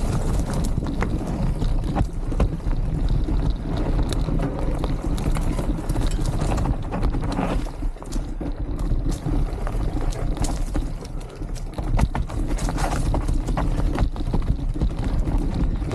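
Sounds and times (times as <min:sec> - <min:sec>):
footsteps on rocky trail: 0:00.0 - 0:15.9
steady low rumble: 0:00.0 - 0:15.9
wind buffeting microphone: 0:00.0 - 0:15.9.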